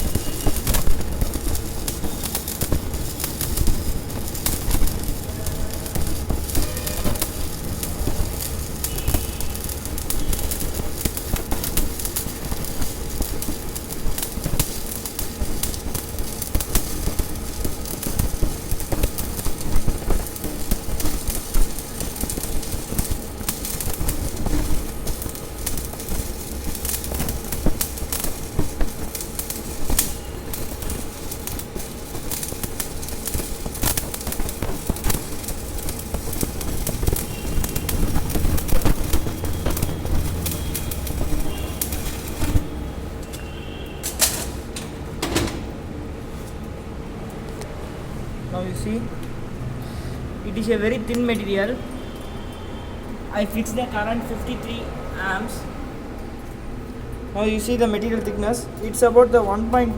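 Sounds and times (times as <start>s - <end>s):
welding arc crackling: 0.0s - 59.9s.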